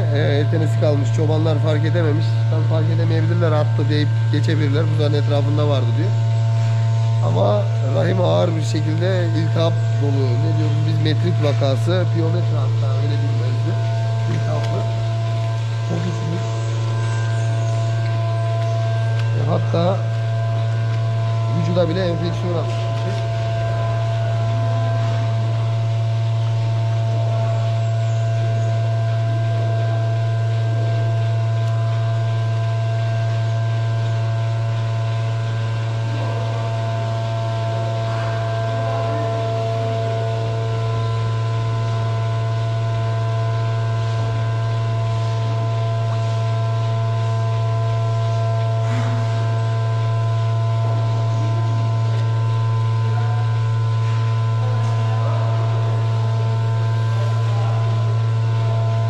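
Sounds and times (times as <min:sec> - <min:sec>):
faint higher tones: 0:00.0 - 0:59.0
low-pitched hum: 0:00.0 - 0:59.0.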